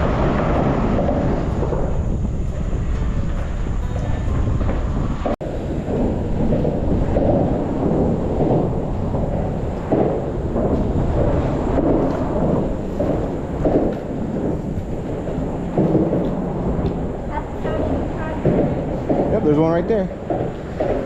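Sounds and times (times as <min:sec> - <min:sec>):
low rumble under bridge: 0:00.0 - 0:21.0
wind buffeting microphone: 0:00.0 - 0:21.0.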